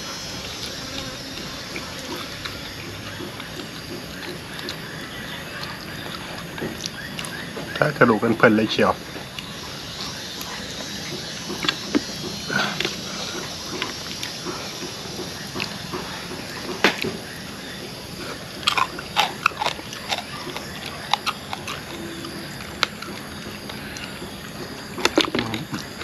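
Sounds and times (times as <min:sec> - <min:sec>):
wet chewing and smacking: 0:00.2 - 0:07.8, 0:09.0 - 0:26.0.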